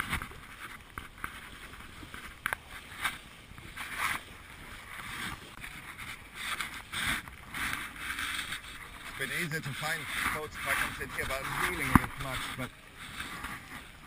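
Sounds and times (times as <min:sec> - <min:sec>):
water splashing along boat hull: 0:00.0 - 0:14.0.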